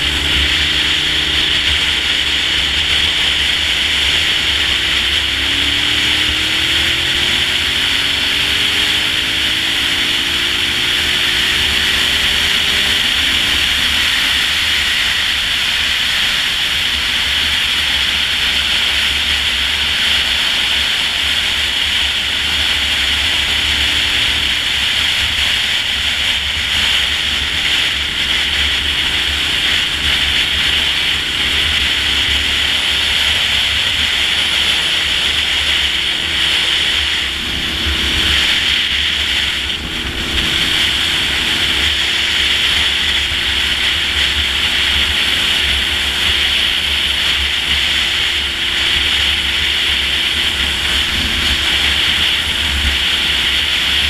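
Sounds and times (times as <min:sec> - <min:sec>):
motorcycle engine droning: 0:00.0 - 0:54.0
wind rush on microphone: 0:00.0 - 0:54.0.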